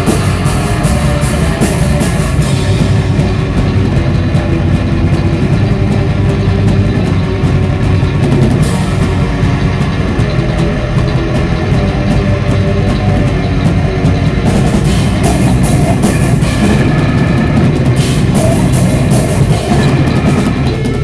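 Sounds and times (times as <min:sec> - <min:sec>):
distorted electric guitars: 0:00.0 - 0:21.0
drum kit playing: 0:00.0 - 0:21.0.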